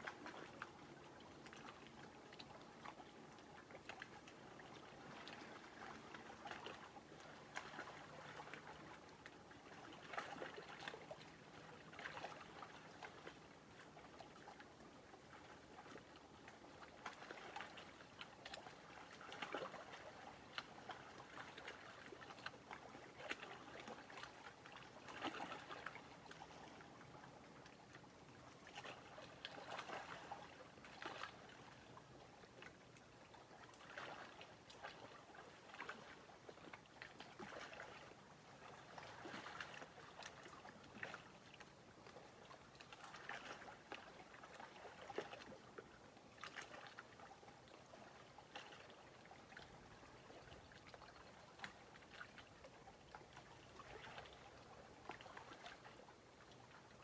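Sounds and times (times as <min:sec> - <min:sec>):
small lake waves lapping: 0:00.0 - 0:57.0.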